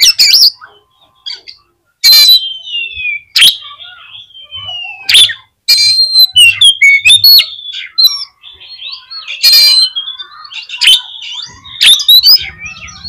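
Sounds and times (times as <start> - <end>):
songbird singing whistled notes: 0.0 - 13.0.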